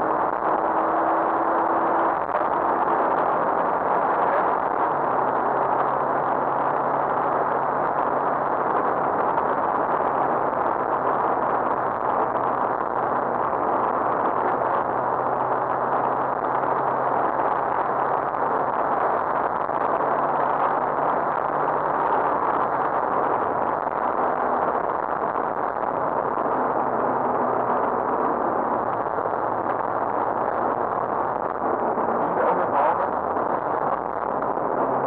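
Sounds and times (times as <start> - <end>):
car engine at steady revs: 0.0 - 35.0
tyre and wind noise: 0.0 - 35.0.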